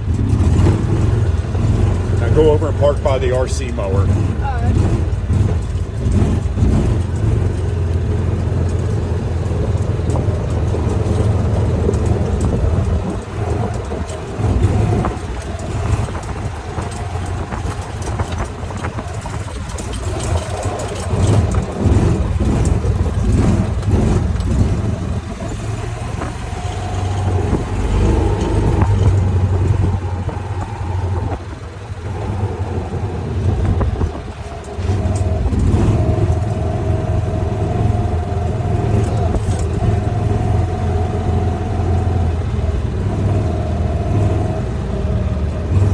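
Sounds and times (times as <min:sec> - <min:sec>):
vehicle engine humming: 0:00.0 - 0:45.9.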